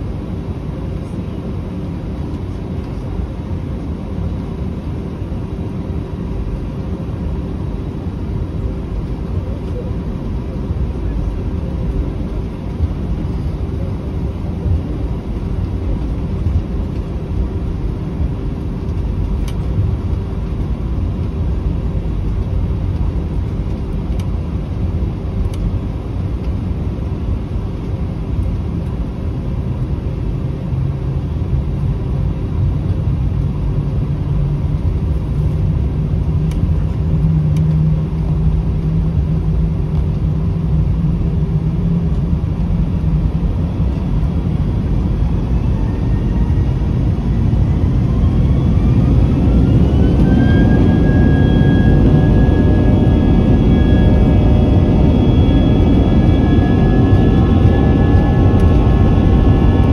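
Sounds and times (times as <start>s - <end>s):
jet engines rumbling in cabin: 0.0s - 59.9s
low hum: 0.0s - 59.9s.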